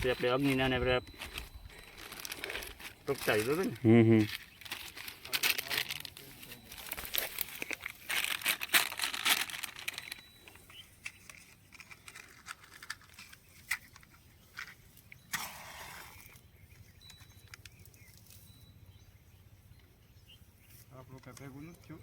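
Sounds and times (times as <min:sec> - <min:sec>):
dry kindling crackling: 0:00.0 - 0:18.7, 0:20.6 - 0:22.0.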